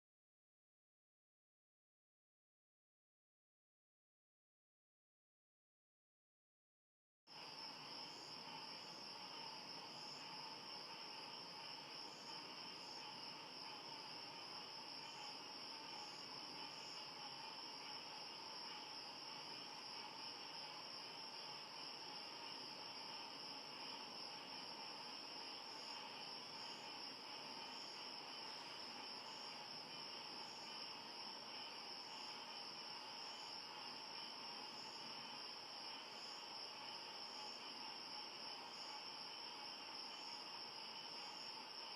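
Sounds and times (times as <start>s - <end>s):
insects trilling: 7.3s - 41.9s.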